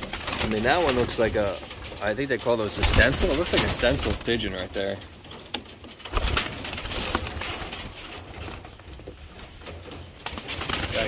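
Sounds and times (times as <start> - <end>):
pigeons cooing: 0.0 - 11.0
wings flapping: 0.0 - 11.0.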